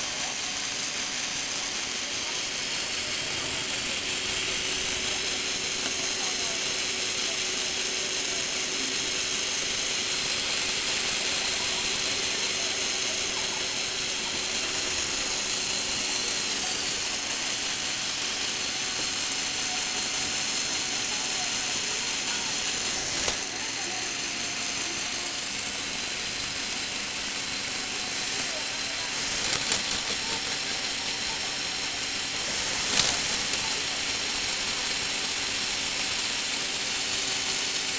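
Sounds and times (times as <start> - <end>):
plastic gears whirring: 0.0 - 37.9.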